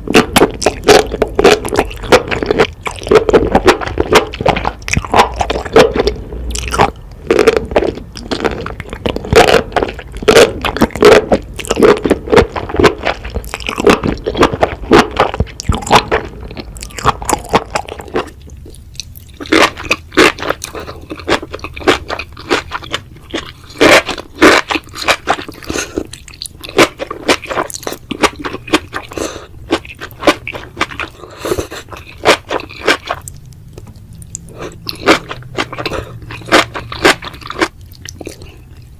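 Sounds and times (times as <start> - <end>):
close chewing of mushrooms: 0.0 - 38.9.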